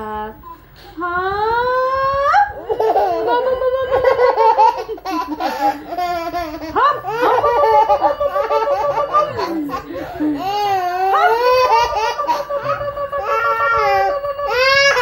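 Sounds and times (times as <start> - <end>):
baby laughing: 2.6 - 15.0.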